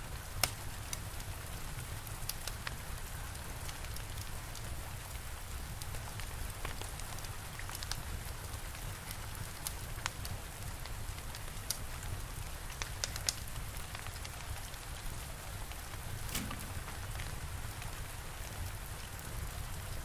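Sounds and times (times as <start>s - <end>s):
steady rain: 0.0s - 20.0s
fire crackling and popping: 0.1s - 20.0s.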